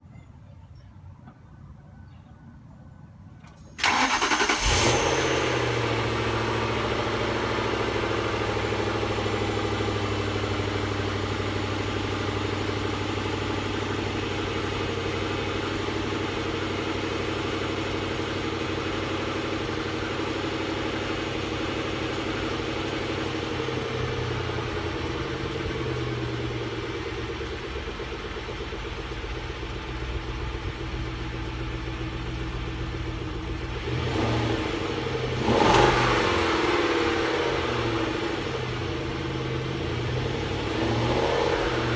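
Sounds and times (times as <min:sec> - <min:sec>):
car engine cranking: 0:03.4 - 0:41.9
car engine idling: 0:03.4 - 0:41.9.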